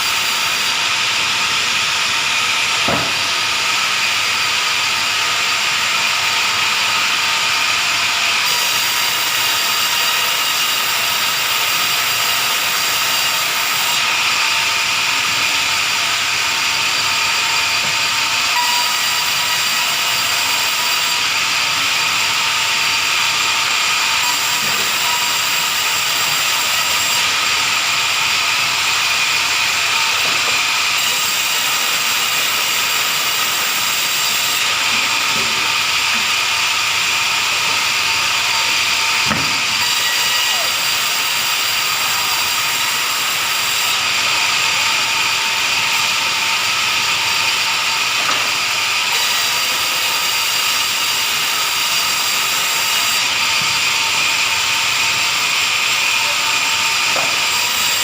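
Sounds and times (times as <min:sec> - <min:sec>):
wood-sawing machine whining: 0:00.0 - 0:58.0.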